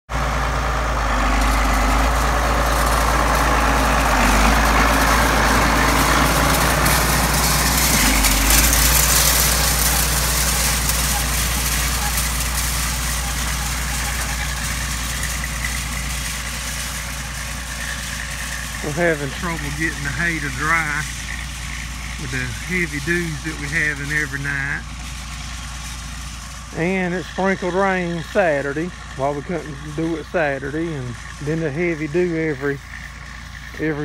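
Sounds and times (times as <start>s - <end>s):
tractor diesel engine running: 0.1s - 34.0s.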